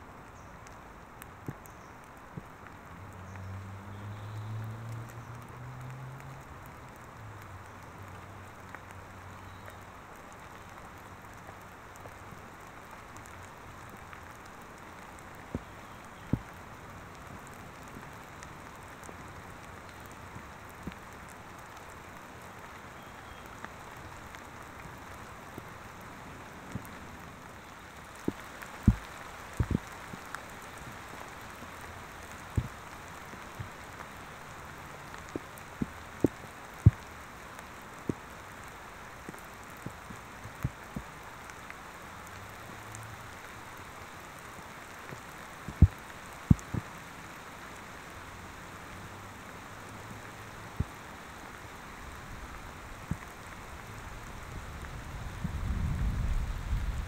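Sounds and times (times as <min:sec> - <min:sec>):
raindrops clicking on microphone: 0:00.0 - 0:57.0
steady rain hiss: 0:00.0 - 0:57.0.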